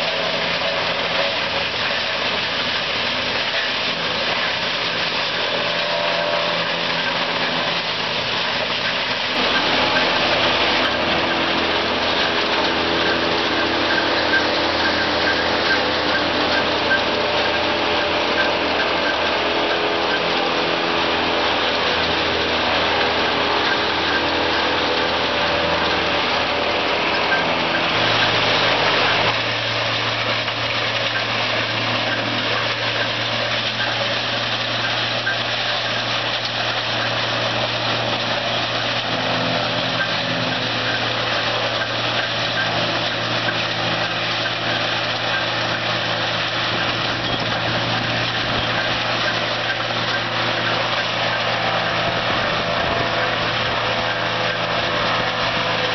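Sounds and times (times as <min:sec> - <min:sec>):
wood grinder engine and grinding: 0:00.0 - 0:55.9.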